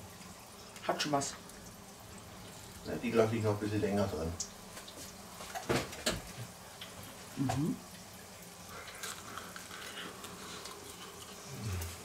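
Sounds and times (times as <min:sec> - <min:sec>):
faint steady hum: 0:00.0 - 0:12.0
fritters sizzling in hot oil: 0:00.0 - 0:12.0.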